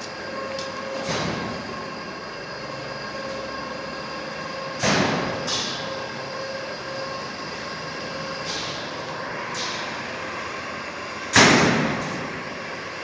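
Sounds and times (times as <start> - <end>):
workshop machinery noise: 0.0 - 13.0.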